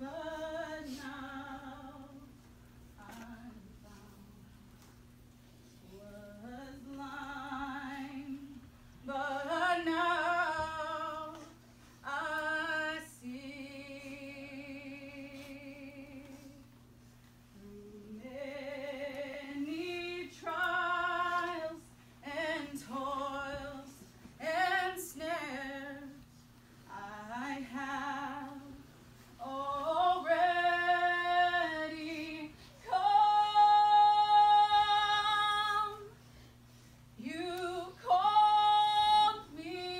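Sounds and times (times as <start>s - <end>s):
woman singing: 0.0s - 2.4s, 3.0s - 4.6s, 5.8s - 16.7s, 17.6s - 26.2s, 26.9s - 36.1s, 37.2s - 39.9s.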